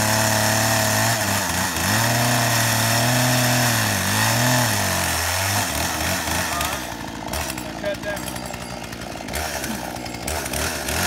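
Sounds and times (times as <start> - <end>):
chainsaw cutting tree trunk: 0.0 - 11.0.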